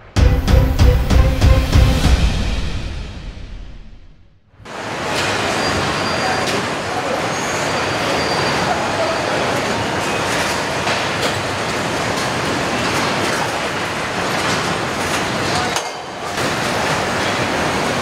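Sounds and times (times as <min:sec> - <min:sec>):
machinery and conveyors din: 0:00.0 - 0:03.5, 0:04.6 - 0:18.0.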